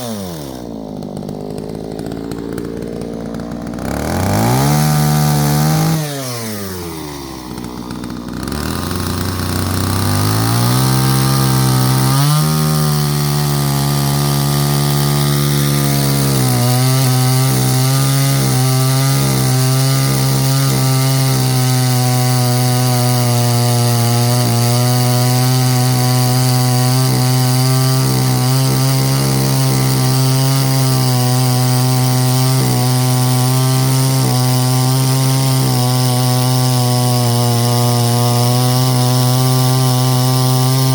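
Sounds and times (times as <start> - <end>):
chainsaw engine at high revs: 0.0 - 40.9.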